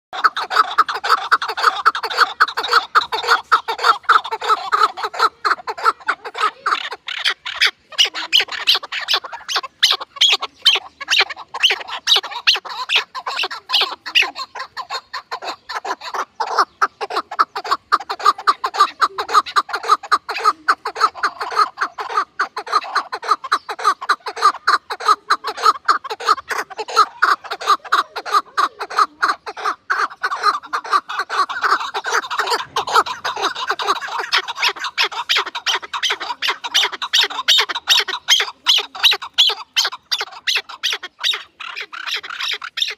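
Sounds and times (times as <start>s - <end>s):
flock of birds chattering: 0.1s - 42.9s.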